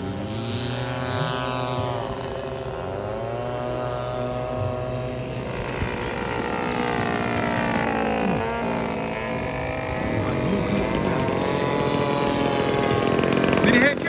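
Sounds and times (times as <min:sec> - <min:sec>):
model airplane engines flying: 0:00.0 - 0:14.0.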